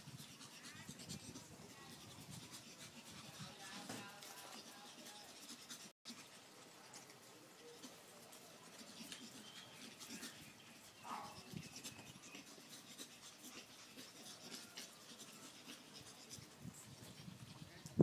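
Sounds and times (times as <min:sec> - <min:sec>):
puppy claws pattering on concrete: 0:00.3 - 0:18.0.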